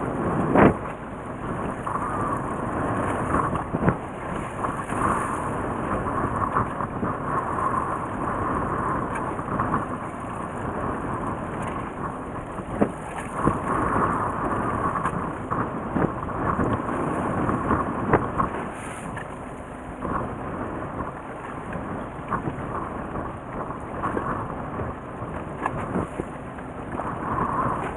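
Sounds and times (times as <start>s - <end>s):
boat engine rumble: 0.0s - 27.9s.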